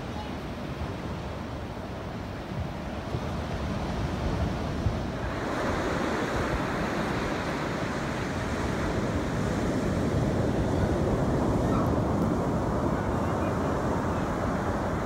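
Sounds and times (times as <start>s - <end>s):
ocean surf rushing: 0.0s - 15.0s
wind: 0.0s - 15.0s.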